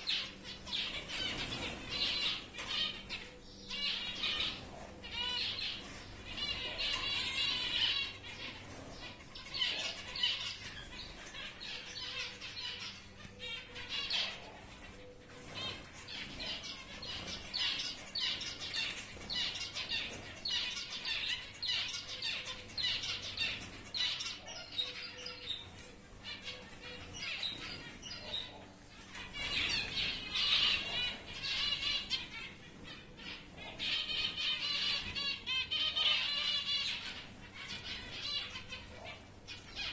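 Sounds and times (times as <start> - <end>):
finches chattering: 0.0 - 39.9.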